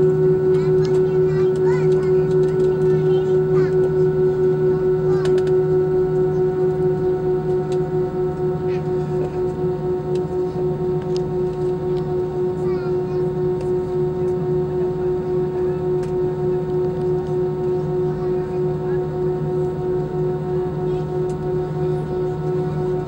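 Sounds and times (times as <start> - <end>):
jet engines idling cabin drone: 0.0 - 23.0.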